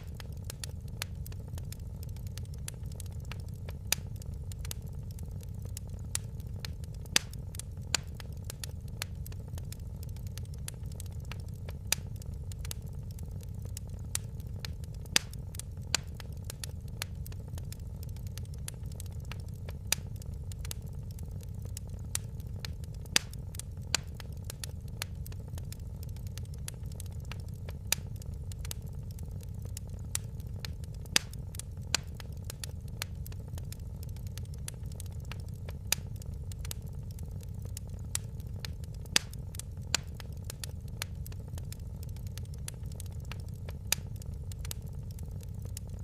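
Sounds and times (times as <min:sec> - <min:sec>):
low rumble of burning fire: 0:00.0 - 0:46.0
wood fire popping and snapping: 0:00.0 - 0:46.0.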